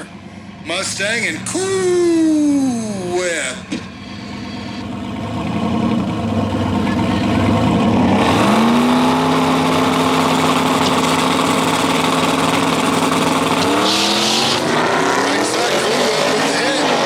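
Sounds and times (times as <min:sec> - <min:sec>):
drag cars at full throttle: 0:00.0 - 0:17.0.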